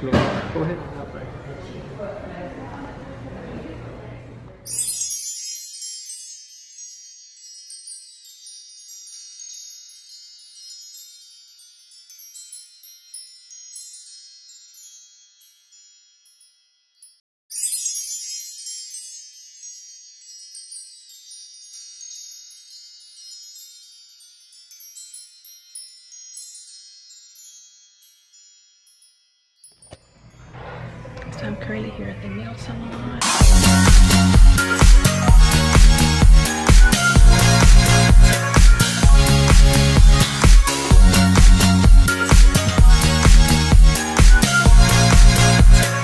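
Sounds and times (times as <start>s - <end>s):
sparkly chime: 4.6s - 30.8s, 33.2s - 46.0s.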